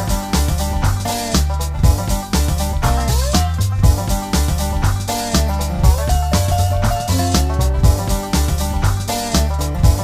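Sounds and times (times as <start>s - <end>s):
upbeat funk music: 0.0s - 10.0s.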